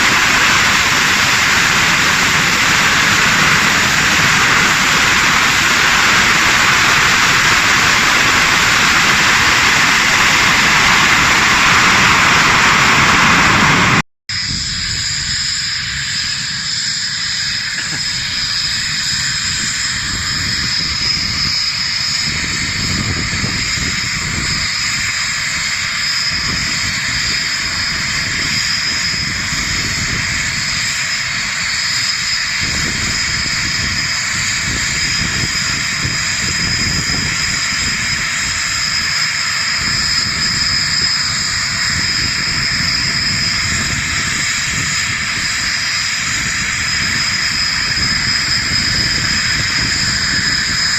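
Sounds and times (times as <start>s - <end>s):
machine hissing: 0.0s - 50.9s.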